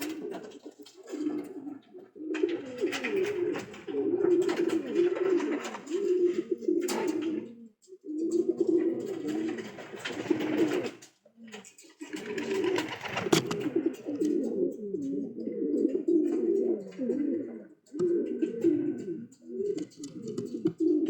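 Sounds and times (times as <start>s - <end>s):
light clicks and scratches: 0.0s - 7.4s, 8.3s - 15.2s, 16.3s - 21.0s
pigeons cooing: 0.0s - 21.0s.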